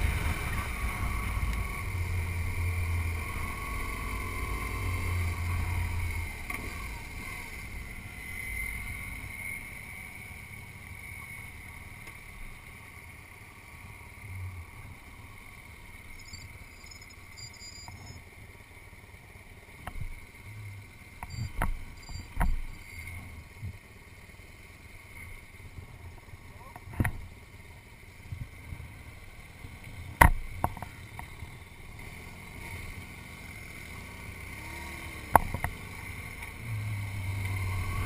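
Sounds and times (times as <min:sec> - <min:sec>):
motorcycle engine: 0:00.0 - 0:38.0.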